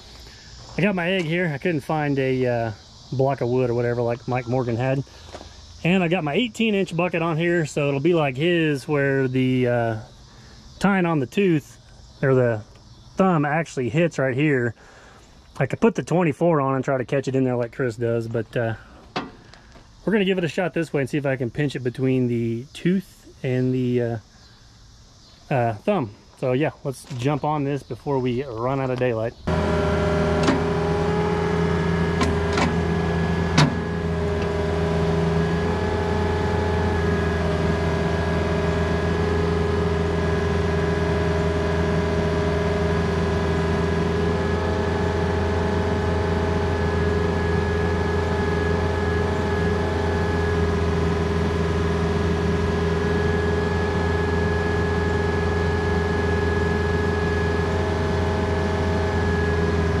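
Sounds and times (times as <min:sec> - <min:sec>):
diesel engine running: 0:00.0 - 0:15.4, 0:27.0 - 1:00.0
faint hydraulic whine: 0:00.0 - 0:15.8, 0:16.6 - 1:00.0.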